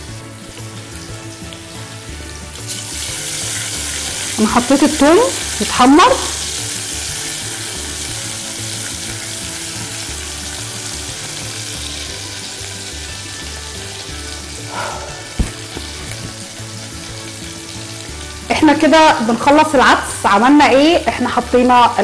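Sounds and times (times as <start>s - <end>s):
garlic sizzling in hot oil: 0.0s - 22.0s.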